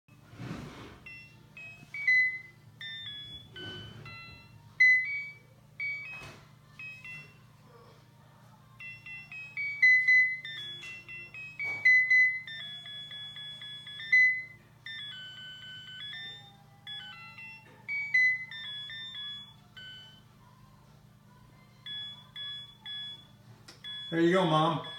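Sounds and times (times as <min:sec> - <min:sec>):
tinny electronic beeping melody: 0:01.0 - 0:07.4, 0:08.8 - 0:20.2, 0:21.8 - 0:24.9.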